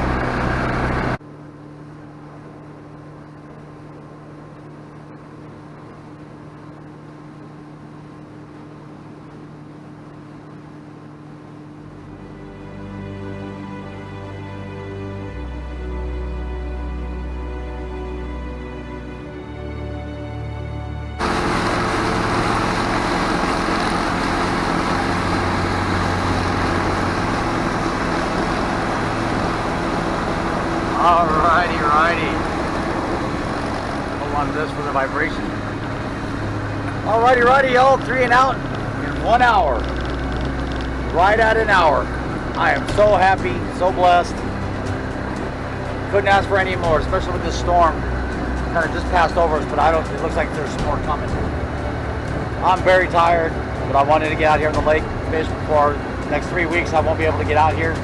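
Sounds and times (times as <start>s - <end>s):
loud engine noise: 0.0s - 1.3s, 11.0s - 58.0s
steady motor hum: 0.0s - 58.0s
water noise: 0.0s - 58.0s
wind: 0.0s - 58.0s.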